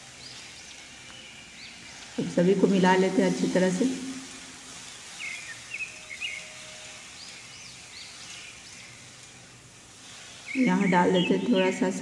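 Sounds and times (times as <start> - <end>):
birds chirping: 0.0 - 12.0
faint steady hiss: 0.0 - 12.0.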